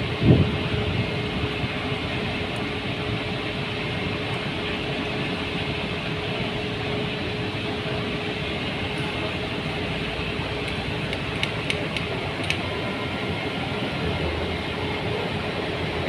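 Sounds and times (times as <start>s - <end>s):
industrial machinery hum: 0.0s - 16.0s.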